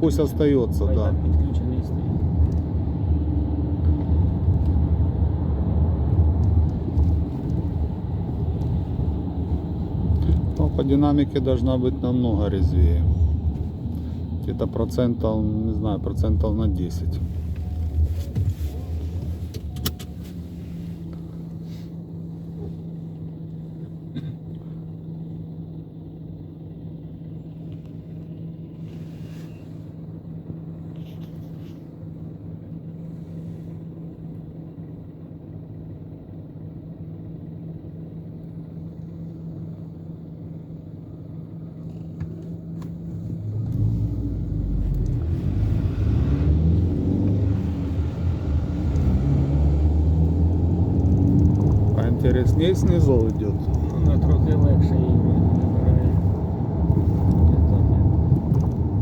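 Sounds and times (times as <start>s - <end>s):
car engine humming: 0.0s - 59.0s.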